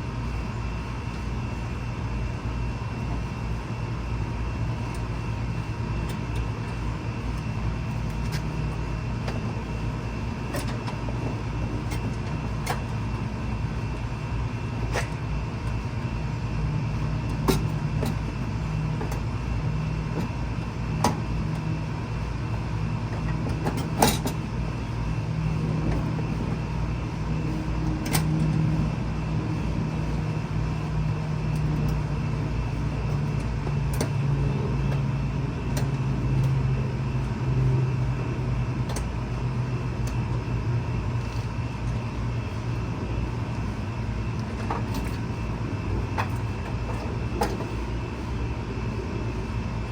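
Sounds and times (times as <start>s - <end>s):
low motor hum: 0.0s - 49.9s.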